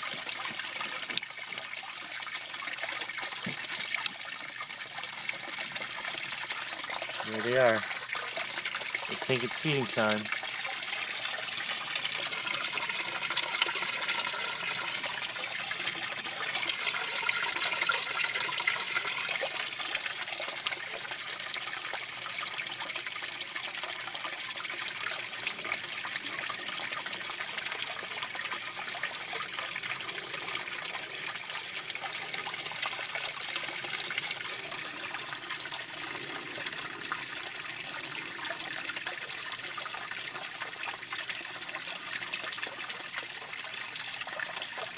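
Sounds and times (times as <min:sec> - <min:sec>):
water trickling and splashing: 0:00.0 - 0:44.9.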